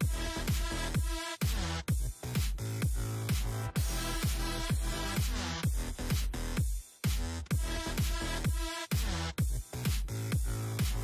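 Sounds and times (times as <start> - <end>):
electronic dance music: 0.0 - 11.0
heavy deep kick drum: 0.0 - 11.0.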